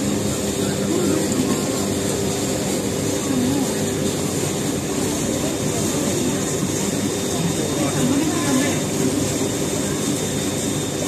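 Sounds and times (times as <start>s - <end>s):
boat engine droning: 0.0s - 11.0s
rushing water: 0.0s - 11.0s
wind: 0.0s - 11.0s.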